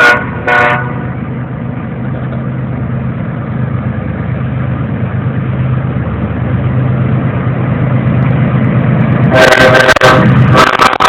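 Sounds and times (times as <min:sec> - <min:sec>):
diesel locomotive rumbling: 0:00.0 - 0:11.0.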